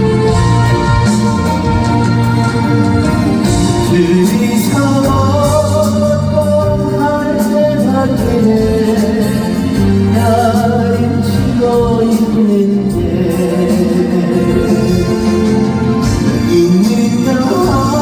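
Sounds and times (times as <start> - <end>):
band playing slow melody: 0.0 - 18.0
steady bass line: 0.0 - 18.0.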